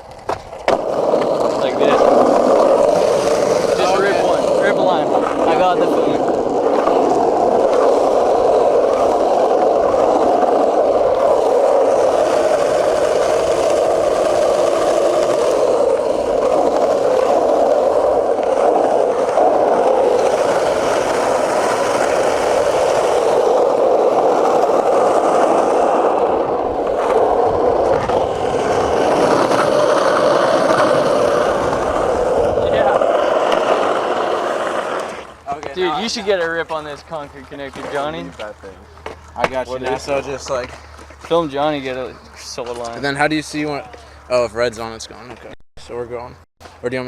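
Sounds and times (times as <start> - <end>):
skateboard wheels rolling on concrete: 0.0 - 47.0.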